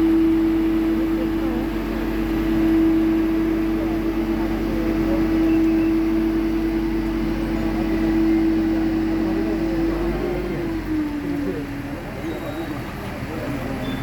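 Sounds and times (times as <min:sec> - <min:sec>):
machine motor humming: 0:00.0 - 0:11.8.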